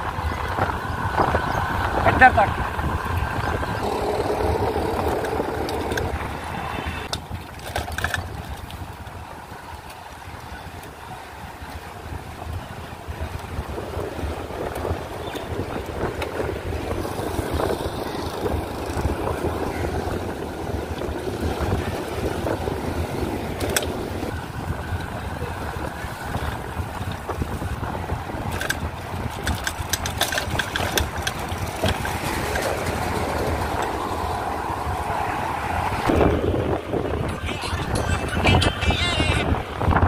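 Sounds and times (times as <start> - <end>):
road traffic: 0.0 - 40.0
wind rumble on microphone: 0.0 - 40.0.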